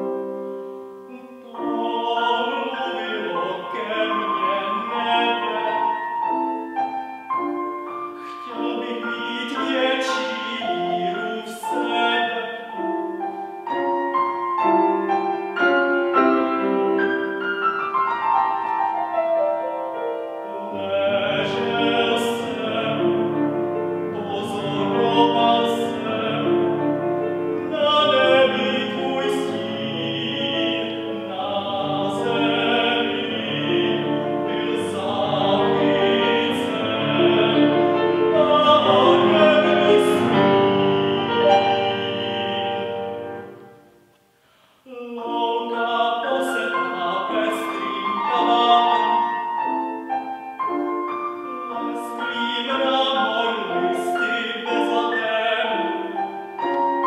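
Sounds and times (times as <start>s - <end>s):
grand piano accompaniment: 0.0s - 57.0s
man singing classical song: 0.0s - 57.0s.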